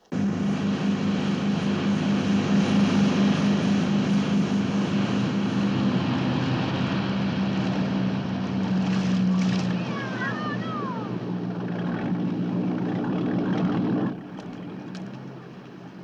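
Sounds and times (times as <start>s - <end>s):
motorboat engine droning: 0.0s - 16.0s
water noise: 0.0s - 16.0s.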